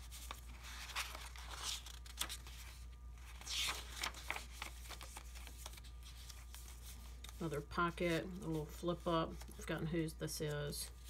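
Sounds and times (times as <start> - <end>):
paper pages rustling: 0.0 - 9.9.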